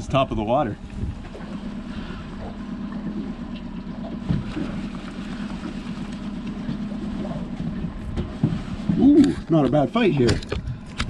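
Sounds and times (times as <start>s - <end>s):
outboard motor humming: 0.0s - 11.0s
water noise: 0.0s - 11.0s
wind: 0.0s - 11.0s.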